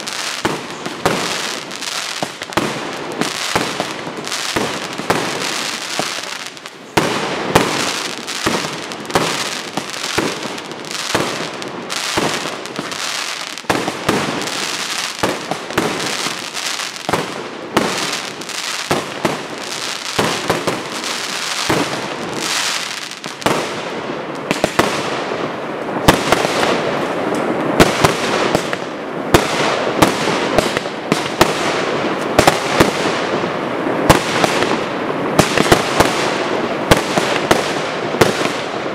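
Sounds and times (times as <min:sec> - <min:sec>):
fireworks bursting with bangs: 0:00.0 - 0:38.9.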